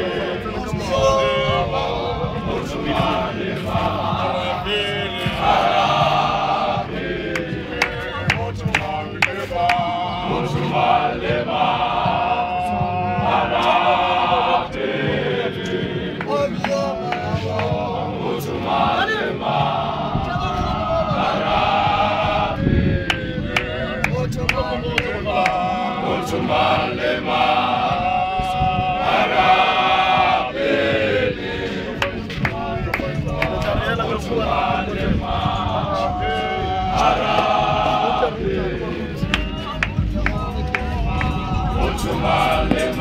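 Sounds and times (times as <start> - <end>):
men chanting in unison: 0.0 - 43.0
men's chorus singing a hymn: 0.0 - 43.0.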